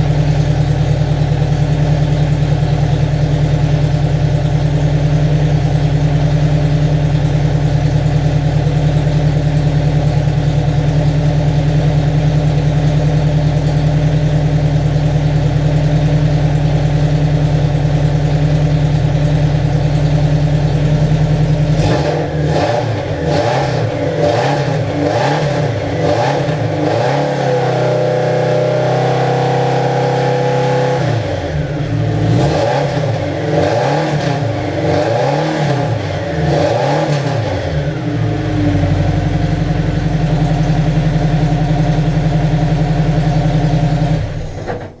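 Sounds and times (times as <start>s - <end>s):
car engine revving and idling: 0.0s - 45.0s.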